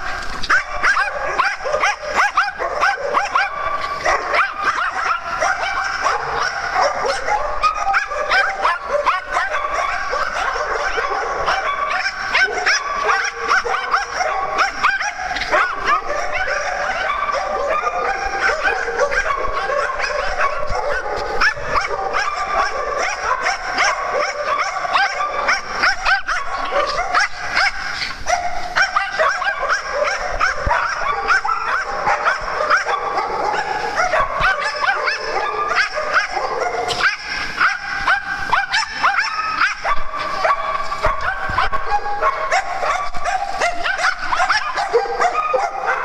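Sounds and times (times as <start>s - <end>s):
dogs barking: 0.0s - 46.0s.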